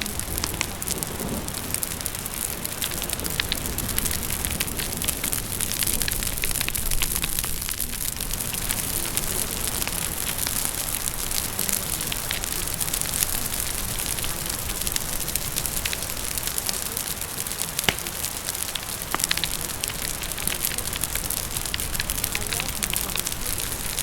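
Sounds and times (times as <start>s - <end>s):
fire crackling and popping: 0.0s - 24.0s
steady rain hiss: 0.0s - 24.0s.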